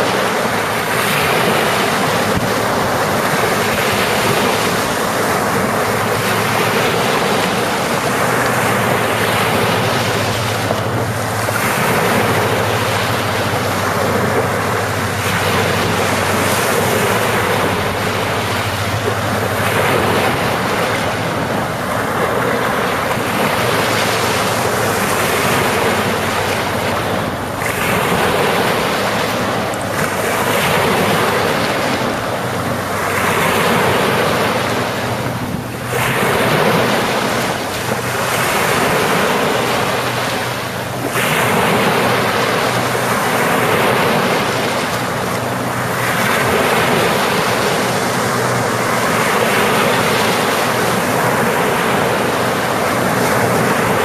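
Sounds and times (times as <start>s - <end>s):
ocean surf washing onto shore: 0.0s - 54.0s.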